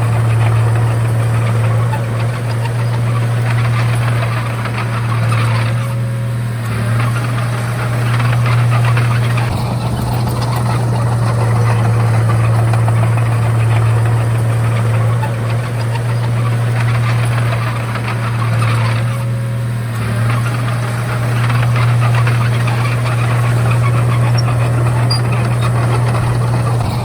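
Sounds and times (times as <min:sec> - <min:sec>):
bulldozer diesel engine running: 0:00.0 - 0:27.0.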